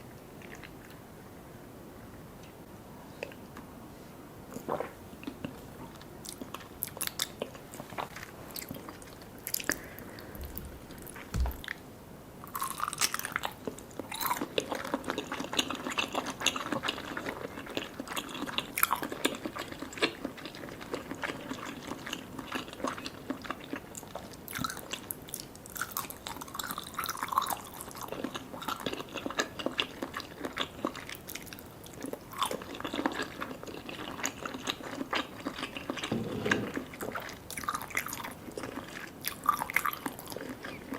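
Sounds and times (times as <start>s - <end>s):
chewing sticky dessert: 0.4s - 1.0s, 4.5s - 40.9s.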